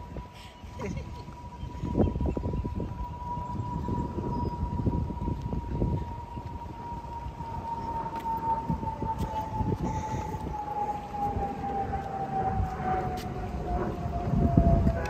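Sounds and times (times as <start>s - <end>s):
low rumble: 0.0s - 15.0s
mechanical siren winding down: 0.0s - 15.0s.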